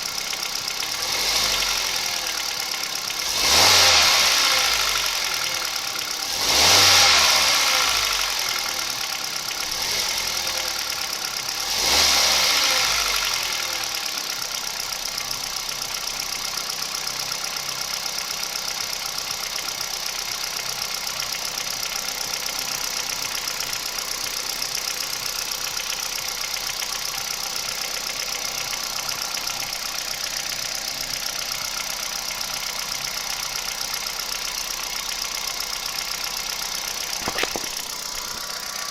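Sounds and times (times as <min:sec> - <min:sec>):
car engine revving and idling: 0:00.0 - 0:38.9
engine knocking: 0:00.0 - 0:38.9.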